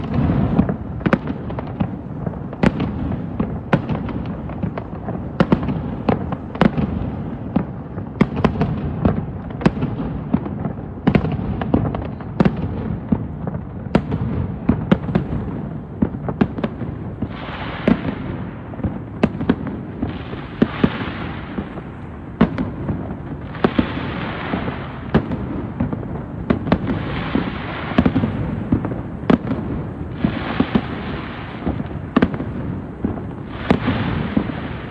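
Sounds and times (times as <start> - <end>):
hissing fireworks: 0.0 - 34.9.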